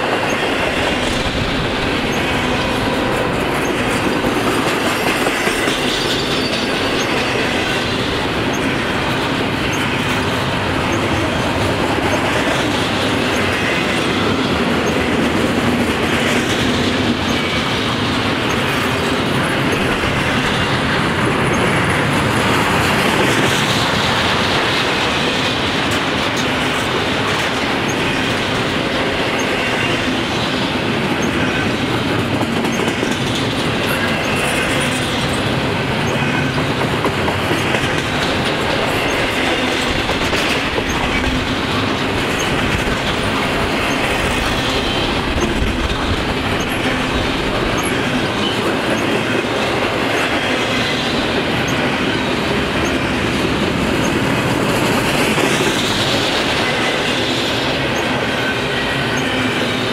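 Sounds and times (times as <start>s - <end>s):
train wheels rumbling and clattering: 0.0s - 59.9s.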